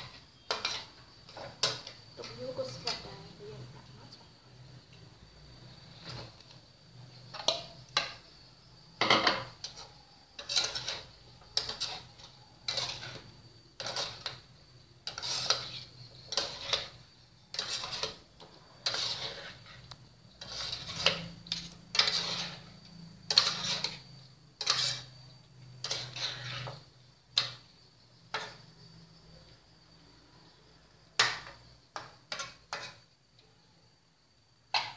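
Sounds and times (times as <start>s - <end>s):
metal spatula scraping a wok: 0.0s - 4.8s, 5.4s - 28.8s, 31.2s - 33.1s.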